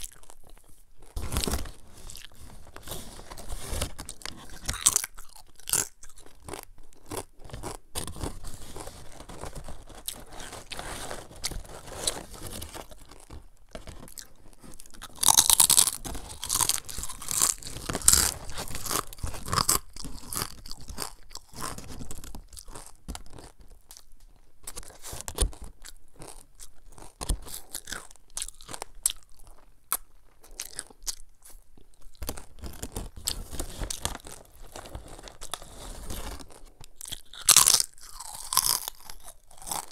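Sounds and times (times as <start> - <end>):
crunching and chewing chips: 0.0 - 39.9.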